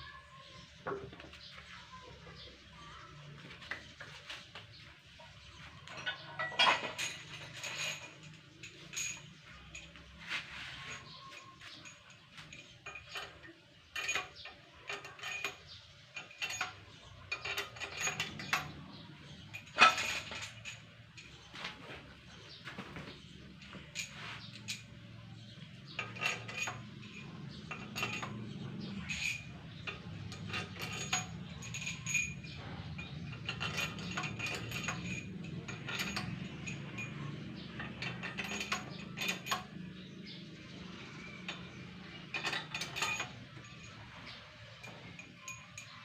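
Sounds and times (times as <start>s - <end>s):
metal tools clinking: 0.0s - 46.0s.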